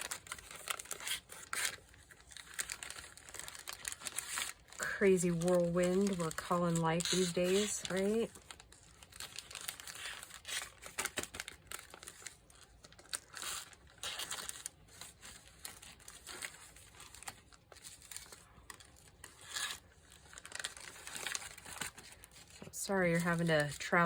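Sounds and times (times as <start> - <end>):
paper rustling: 0.0 - 24.0.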